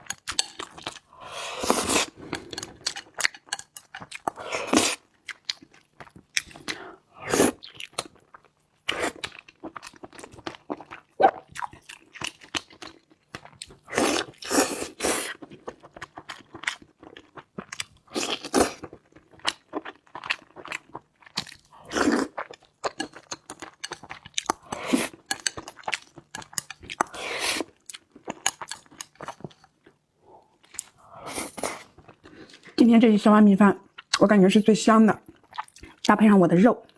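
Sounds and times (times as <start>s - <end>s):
crunchy chewing of food: 0.0s - 32.7s.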